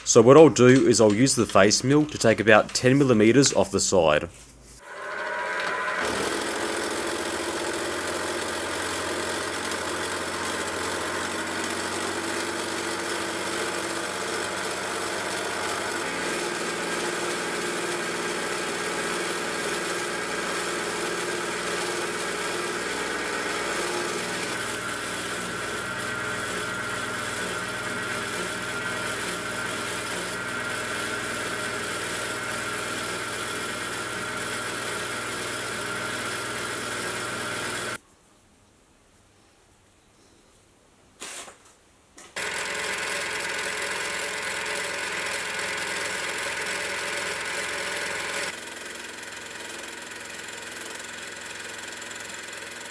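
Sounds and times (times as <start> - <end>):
milling machine cutting steel: 4.8 - 38.0, 42.4 - 52.9.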